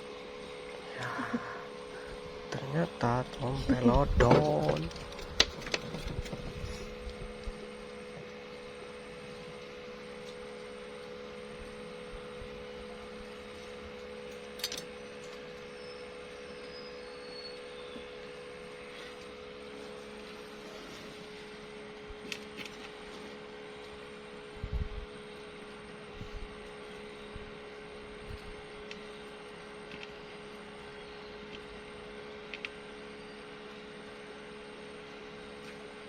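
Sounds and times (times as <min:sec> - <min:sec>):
steady hum of held tones: 0:00.0 - 0:36.0.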